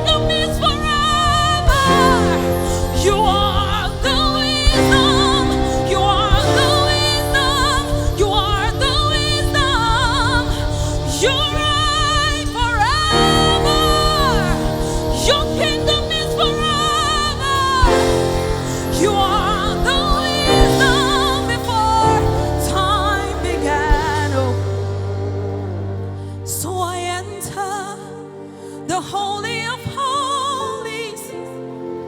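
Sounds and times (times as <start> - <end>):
bass line: 0.0 - 27.6
solo voice singing with vibrato: 0.0 - 31.7
sustained chords: 0.0 - 32.0.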